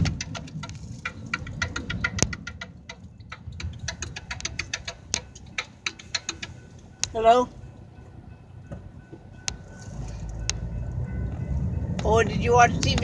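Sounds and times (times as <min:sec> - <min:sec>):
freight train rumble: 0:00.0 - 0:13.0
train wheels clicking and clanking: 0:00.0 - 0:13.0.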